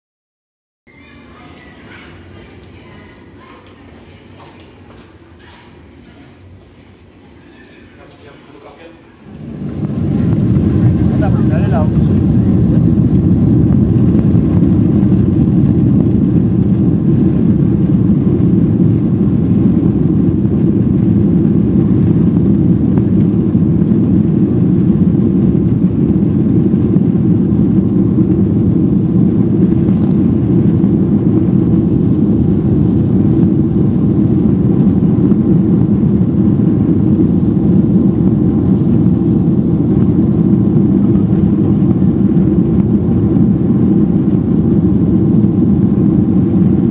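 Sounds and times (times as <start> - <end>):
jet engine rumble in cabin: 0.9 - 46.9.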